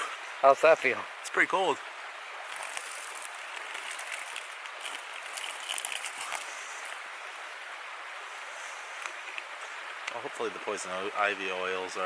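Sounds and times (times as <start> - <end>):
light water splashes: 0.0 - 10.7
creek water running: 0.0 - 12.0.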